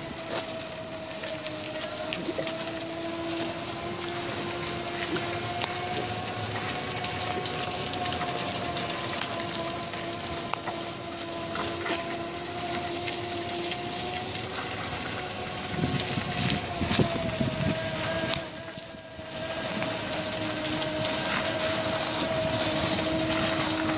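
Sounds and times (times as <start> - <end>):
land train drive whine: 0.0 - 23.9
low rumbles: 0.0 - 23.9.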